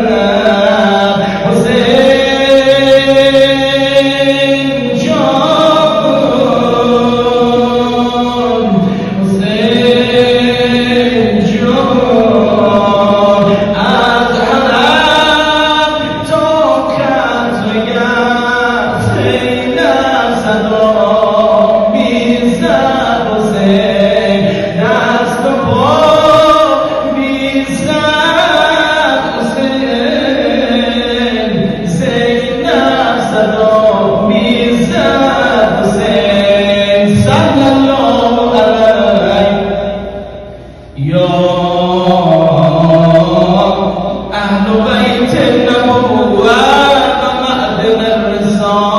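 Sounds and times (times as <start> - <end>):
man chanting a lament: 0.0 - 48.9.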